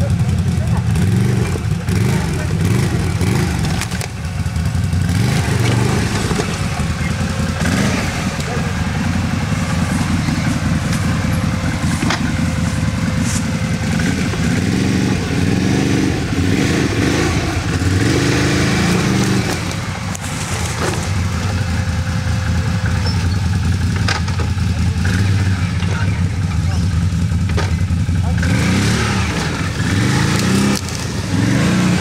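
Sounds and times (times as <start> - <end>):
atv engine revving: 0.0 - 32.0.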